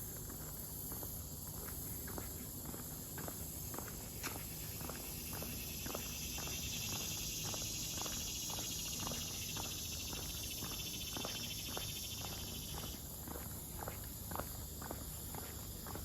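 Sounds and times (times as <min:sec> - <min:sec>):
footsteps on trail: 0:00.0 - 0:16.0
insects trilling: 0:00.0 - 0:16.0.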